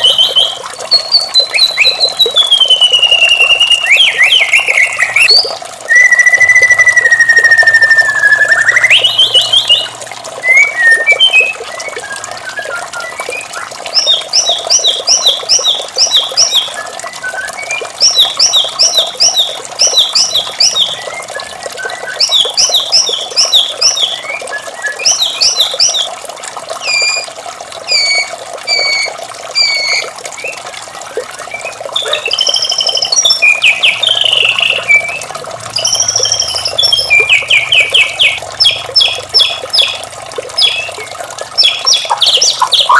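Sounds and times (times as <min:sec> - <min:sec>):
bird singing varied song: 0:00.0 - 0:26.1, 0:27.9 - 0:30.6, 0:31.4 - 0:42.9
rushing water: 0:00.0 - 0:42.9.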